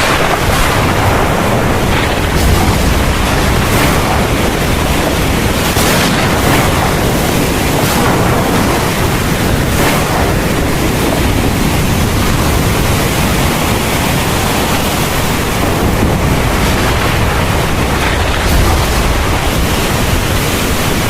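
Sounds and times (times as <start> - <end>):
deep low rumble: 0.0 - 13.7, 15.5 - 20.7
heavy rain pouring: 0.0 - 21.0.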